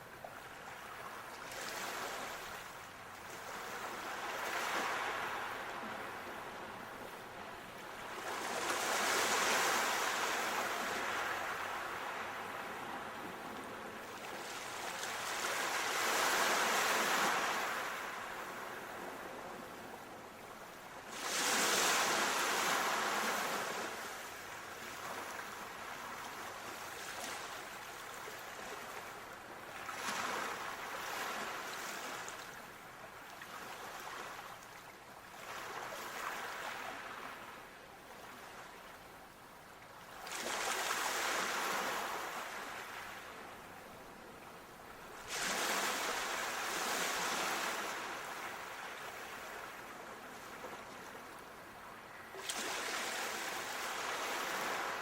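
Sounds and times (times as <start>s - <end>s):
sea waves washing ashore: 0.4s - 39.0s, 40.0s - 55.0s.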